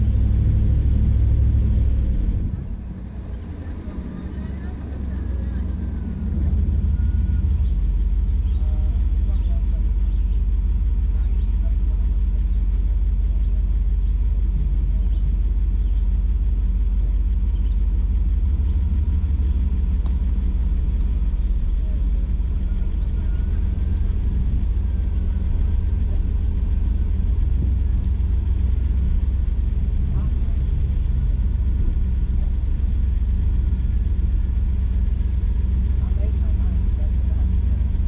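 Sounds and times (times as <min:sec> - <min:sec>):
engine deep low hum: 0:00.0 - 0:38.0.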